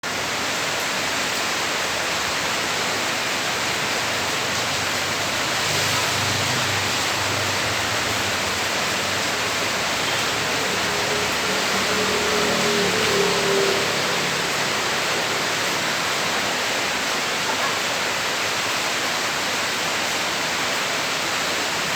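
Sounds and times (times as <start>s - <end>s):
heavy rain pouring: 0.0s - 21.9s.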